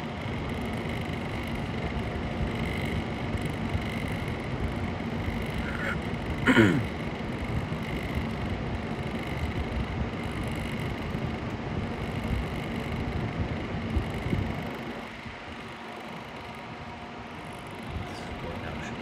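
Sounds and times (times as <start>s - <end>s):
computer fan humming: 0.0s - 19.0s.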